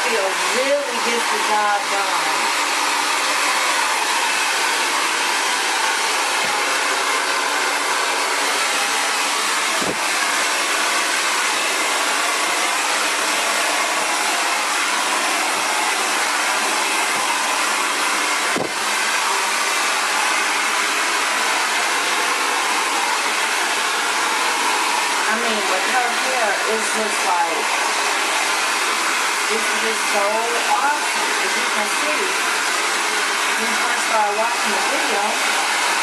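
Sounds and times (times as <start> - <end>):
hair dryer blowing: 0.0 - 36.0.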